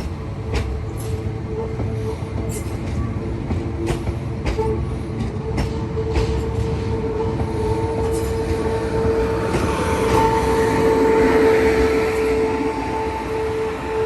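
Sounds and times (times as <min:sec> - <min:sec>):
train wheels clicking over rail joints: 0:00.0 - 0:12.7
electric train whine: 0:00.0 - 0:14.0.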